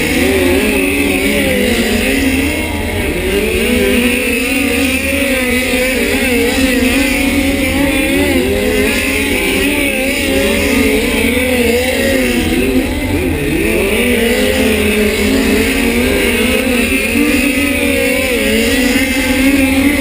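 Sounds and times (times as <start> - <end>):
race car engines circling: 0.0 - 20.0.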